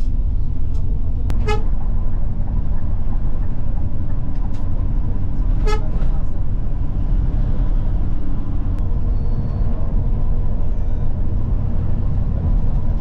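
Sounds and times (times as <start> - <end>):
coach engine rumble: 0.0 - 13.0.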